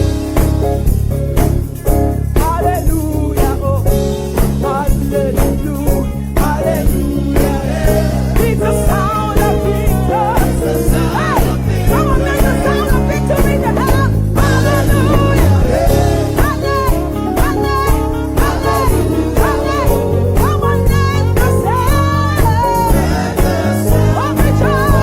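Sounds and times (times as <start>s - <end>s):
gospel band playing: 0.0s - 25.0s
person singing: 2.4s - 25.0s.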